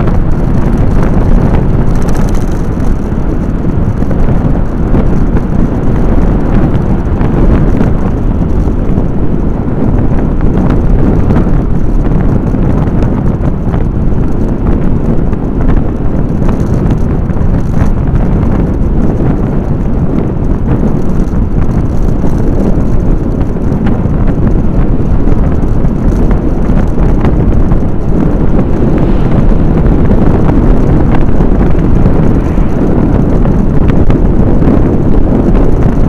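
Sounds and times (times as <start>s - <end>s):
road noise: 0.0s - 36.0s
wind buffeting microphone: 0.0s - 36.0s.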